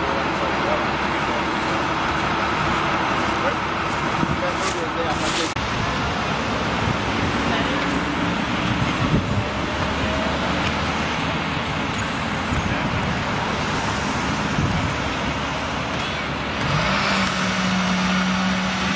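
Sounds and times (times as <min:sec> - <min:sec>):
low engine hum: 0:00.0 - 0:18.9
traffic noise: 0:00.0 - 0:18.9.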